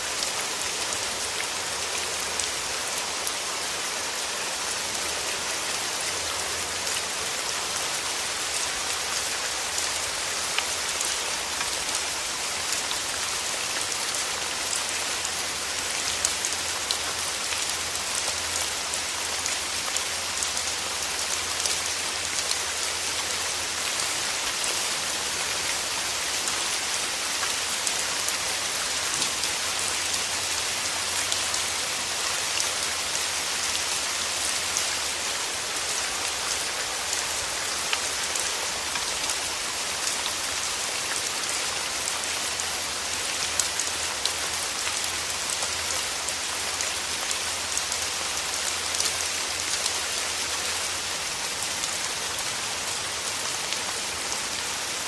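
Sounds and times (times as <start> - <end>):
rain on petals: 0.0 - 55.0.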